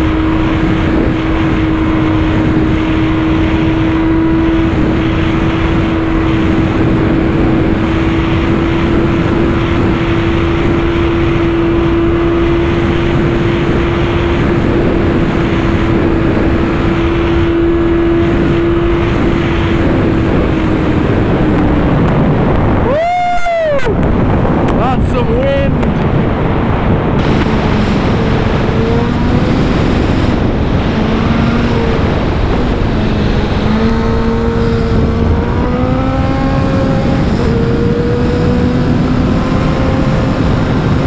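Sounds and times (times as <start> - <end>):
motorcycle engine at high revs: 0.0 - 22.8, 23.9 - 41.0
wind rush on microphone: 0.0 - 41.0.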